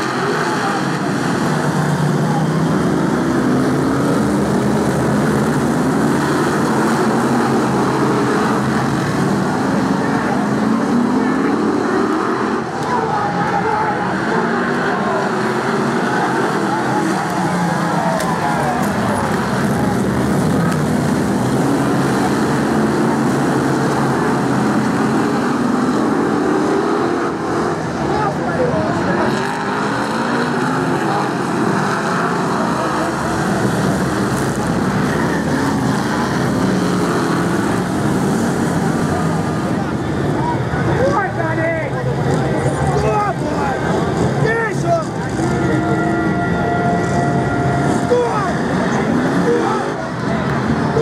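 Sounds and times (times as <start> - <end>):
racing car engines droning: 0.0 - 51.0.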